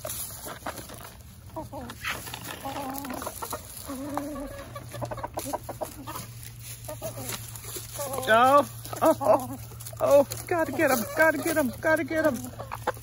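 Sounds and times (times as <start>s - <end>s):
hens clucking: 0.0s - 13.0s
pecking in dry leaves: 0.0s - 13.0s.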